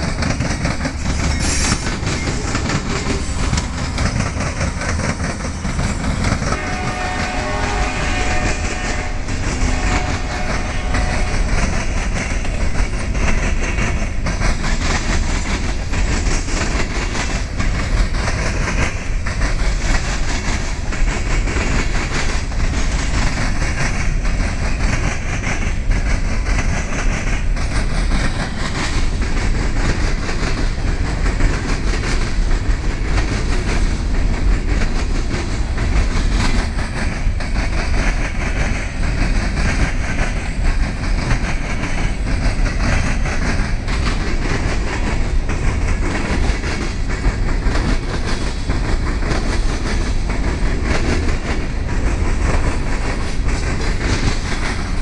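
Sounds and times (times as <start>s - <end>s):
freight train rumbling past: 0.0s - 55.0s
wheels clattering over rails: 0.0s - 55.0s.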